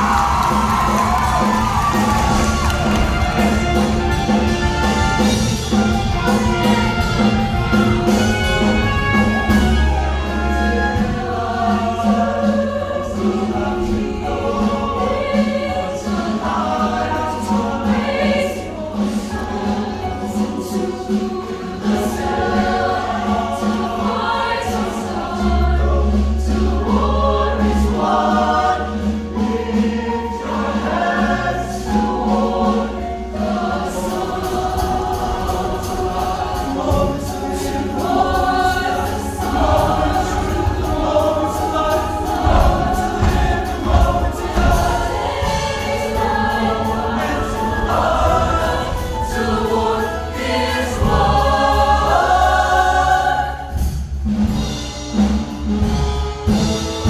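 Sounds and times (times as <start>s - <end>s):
choir singing in harmony: 0.0s - 57.0s
instrumental accompaniment: 0.0s - 57.0s.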